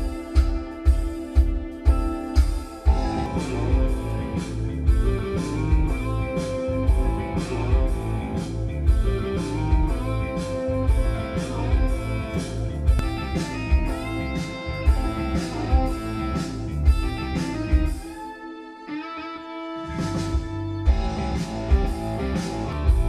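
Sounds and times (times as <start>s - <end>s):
guitar music with heavy bass: 0.0s - 23.0s.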